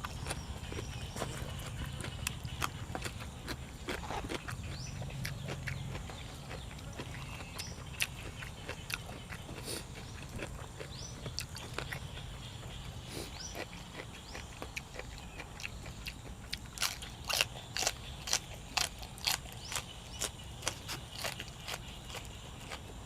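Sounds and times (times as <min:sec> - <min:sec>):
chewing food crunches: 0:00.0 - 0:23.0.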